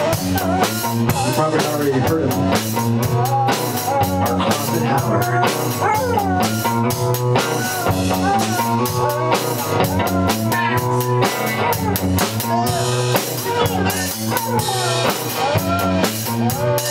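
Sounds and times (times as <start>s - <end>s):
rock band playing: 0.0s - 16.9s
dog howling: 3.0s - 16.9s.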